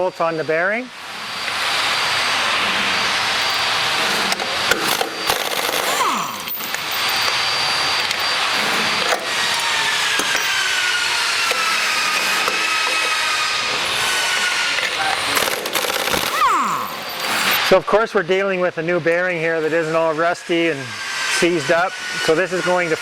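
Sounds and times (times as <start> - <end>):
power tool running: 0.8 - 18.5, 19.2 - 23.0.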